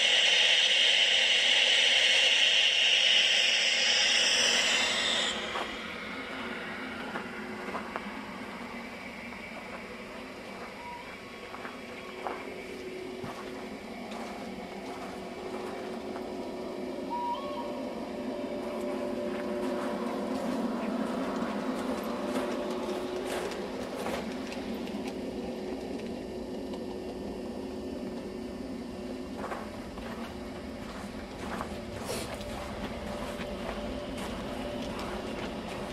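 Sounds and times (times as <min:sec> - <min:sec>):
model train motor hum: 0:00.0 - 0:35.9.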